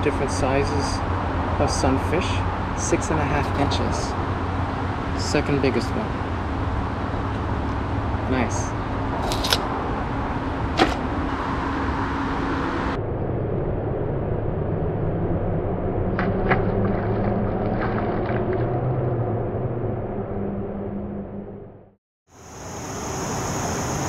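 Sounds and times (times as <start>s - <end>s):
traffic rumble: 0.0s - 21.8s.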